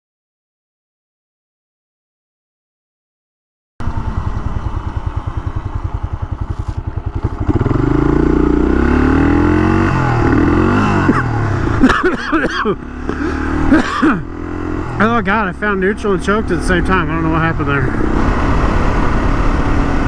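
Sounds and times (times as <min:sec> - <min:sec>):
motorcycle engine idling and revving: 0:03.8 - 0:20.0.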